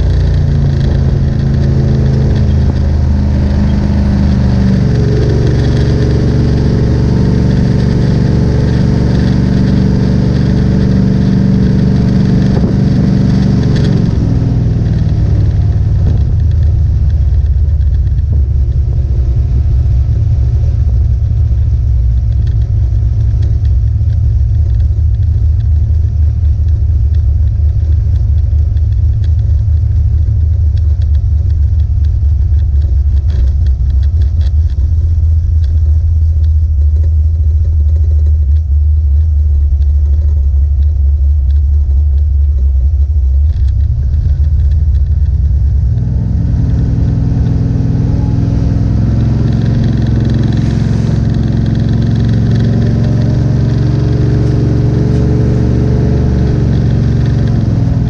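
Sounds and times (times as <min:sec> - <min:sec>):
car engine rumbling: 0:00.0 - 0:58.0.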